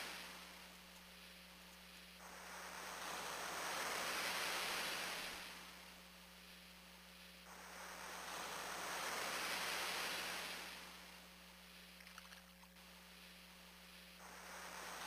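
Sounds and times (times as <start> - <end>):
ocean wave sound: 0.0 - 0.6, 2.2 - 6.6, 7.2 - 15.0
low steady hum: 0.0 - 15.0.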